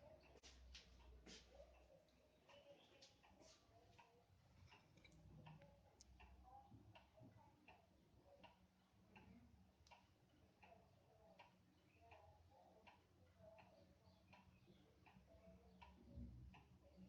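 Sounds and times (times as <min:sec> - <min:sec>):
faint clock ticking: 0:00.0 - 0:17.0.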